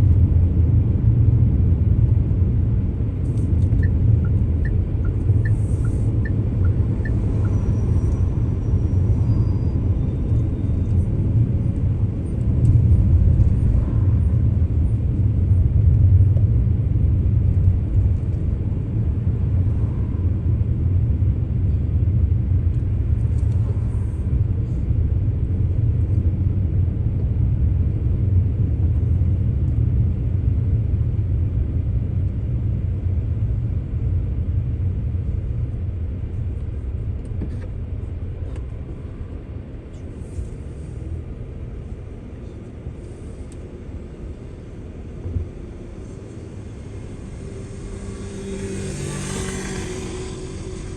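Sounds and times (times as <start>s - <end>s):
car engine rumble: 0.0s - 50.9s.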